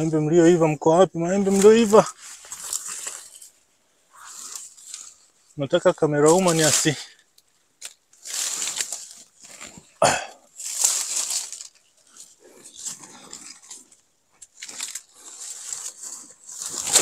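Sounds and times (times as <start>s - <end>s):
leaves and branches rustling: 0.0s - 17.0s.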